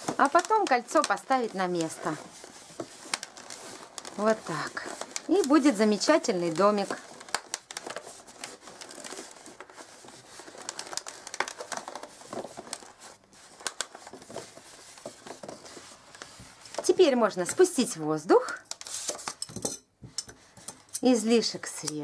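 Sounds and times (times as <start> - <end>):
balloons creaking and crinkling: 0.0 - 19.4.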